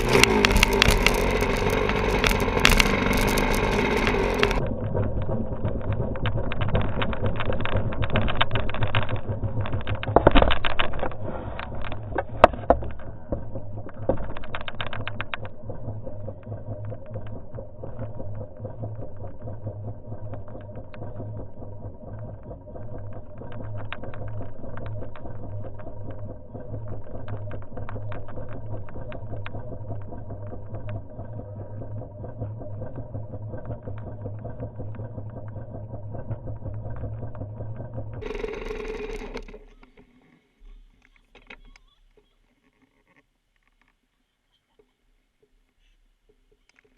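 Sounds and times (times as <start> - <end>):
motorcycle engine running: 0.0 - 39.8.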